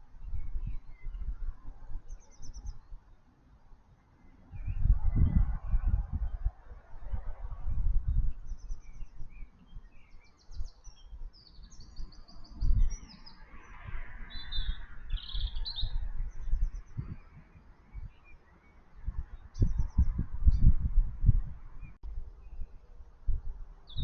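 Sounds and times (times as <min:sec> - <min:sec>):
small birds chirping: 0:00.0 - 0:06.8, 0:08.1 - 0:24.0.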